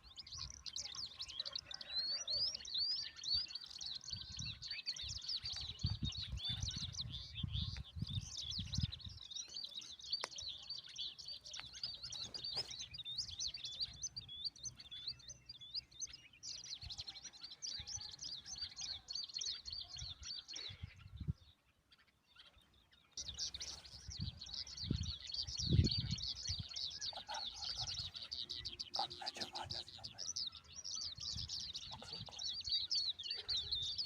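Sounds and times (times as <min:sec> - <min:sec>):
baby birds chirping: 0:00.0 - 0:21.2, 0:23.2 - 0:34.0.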